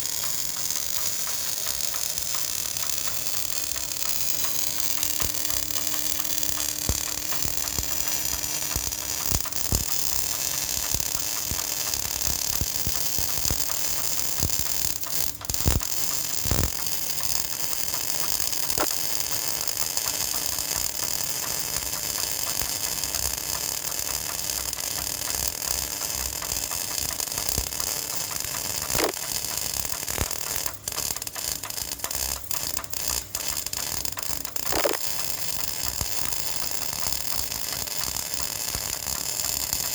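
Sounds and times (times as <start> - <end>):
arc welding crackling hiss: 0.0 - 39.9
welding arc pops: 0.0 - 39.9.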